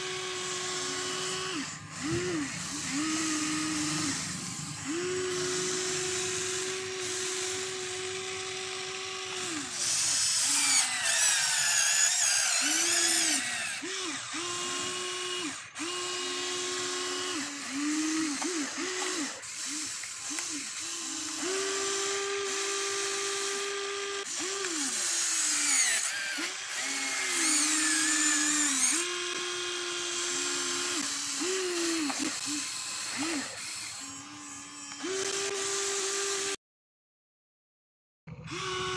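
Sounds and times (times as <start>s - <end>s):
electric motors whining: 0.0s - 36.6s, 38.3s - 38.9s.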